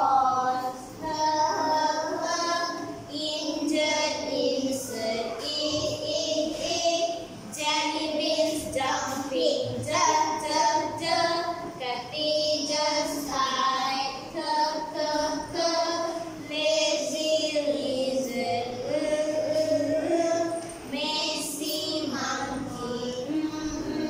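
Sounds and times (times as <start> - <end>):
children singing together: 0.0 - 24.0.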